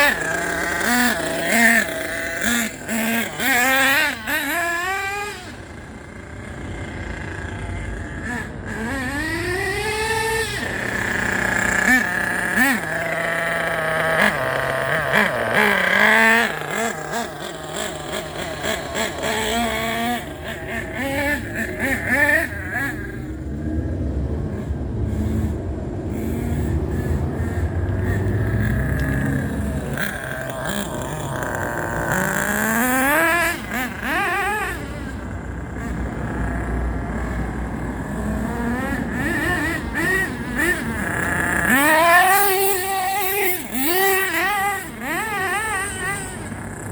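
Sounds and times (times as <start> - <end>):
model boat engine revving: 0.0 - 46.9.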